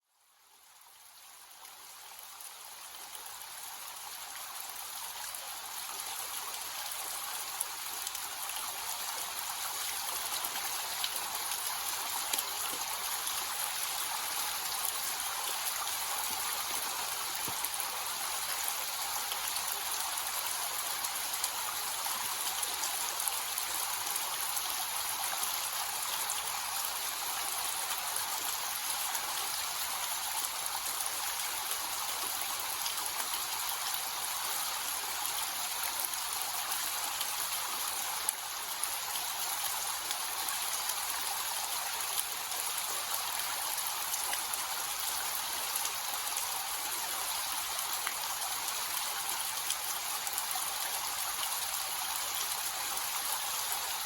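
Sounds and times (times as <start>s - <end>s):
small waterfall splashing: 1.4s - 54.0s.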